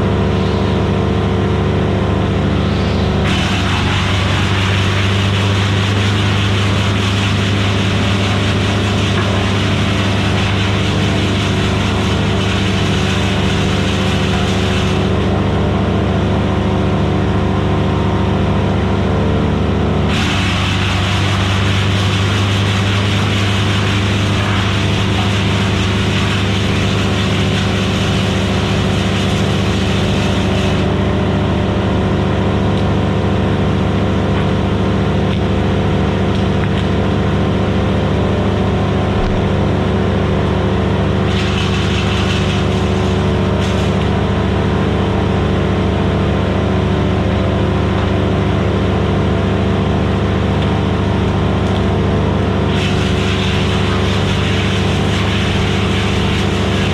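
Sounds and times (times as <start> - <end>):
wood chipper engine running: 0.0 - 56.9.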